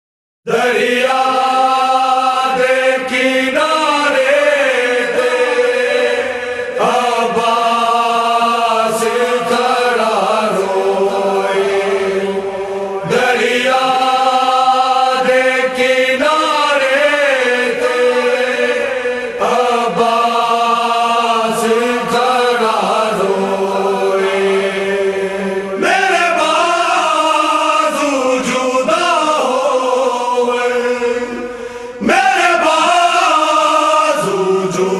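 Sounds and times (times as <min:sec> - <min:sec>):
person chanting: 0:00.5 - 0:34.9.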